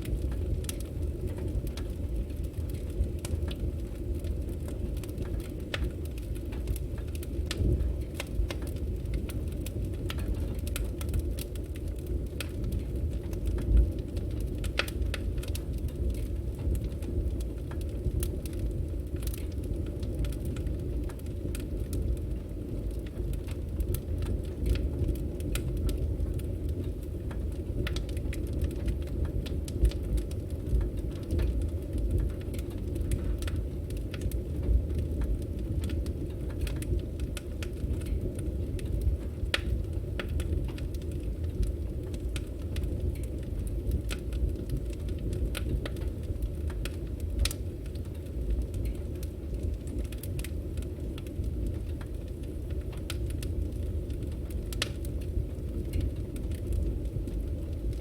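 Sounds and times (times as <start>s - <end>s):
firewood burning with crackles: 0.0s - 58.0s.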